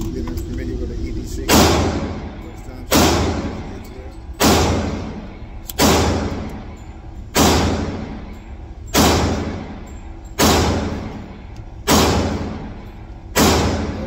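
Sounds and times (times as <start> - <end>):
echoing gunshots: 1.5 - 3.8, 4.4 - 14.0.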